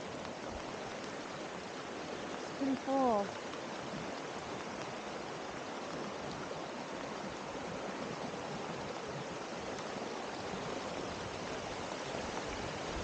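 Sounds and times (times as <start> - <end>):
rushing creek water: 0.0 - 13.0.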